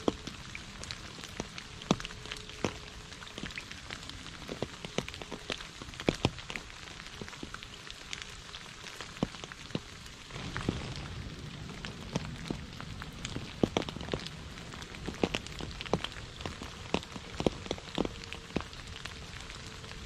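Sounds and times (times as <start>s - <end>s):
rain hissing: 0.0s - 20.0s
raindrops plinking into water: 0.0s - 20.0s.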